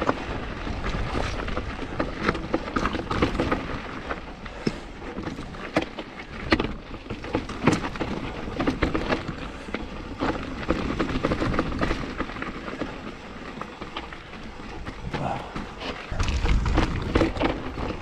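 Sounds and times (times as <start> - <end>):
bike knocking and rattling: 0.0 - 18.0
bike tyres crunching over rock: 0.0 - 18.0.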